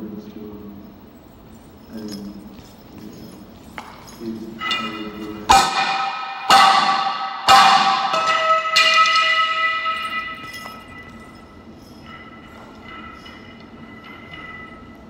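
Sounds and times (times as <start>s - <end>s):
bell ringing strikes: 1.9s - 15.0s.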